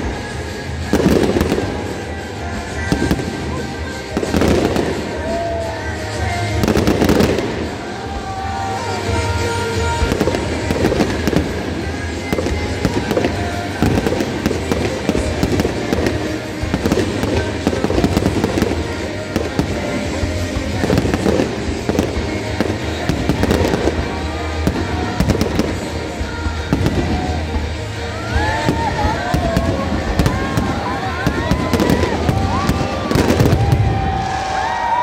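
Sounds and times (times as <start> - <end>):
fireworks bursting and crackling: 0.0 - 35.0
music playing: 0.0 - 35.0.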